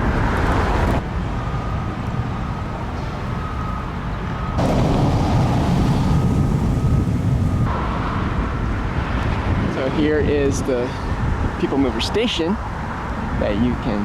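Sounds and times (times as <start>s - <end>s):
road and wind noise rumble: 0.0s - 14.0s.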